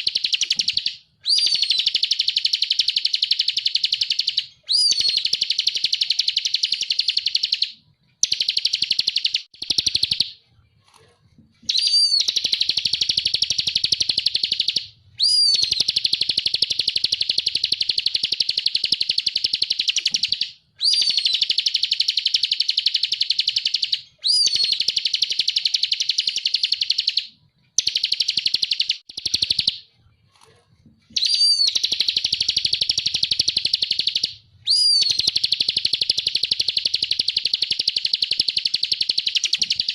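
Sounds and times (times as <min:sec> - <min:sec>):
bird singing rattling trill: 0:00.0 - 0:10.4, 0:11.6 - 0:29.9, 0:31.1 - 0:39.9.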